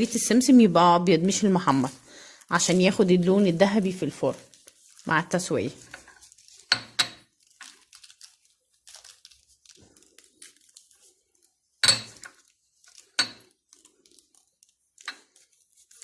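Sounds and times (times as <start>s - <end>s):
faint crinkling and rustling: 1.2s - 16.0s.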